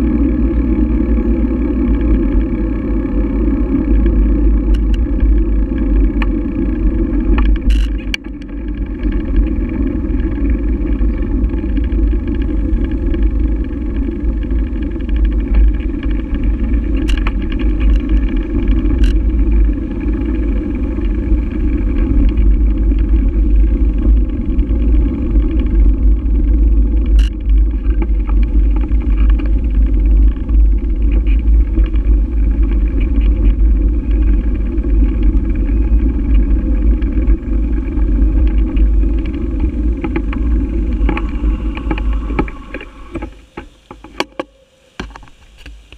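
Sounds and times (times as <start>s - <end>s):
wind buffeting microphone: 0.0s - 45.3s
road vibration rumble: 0.0s - 45.9s.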